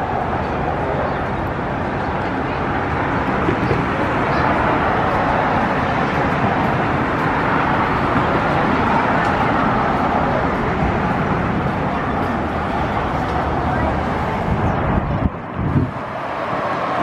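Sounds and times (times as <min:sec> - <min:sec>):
traffic roar: 0:00.0 - 0:17.0.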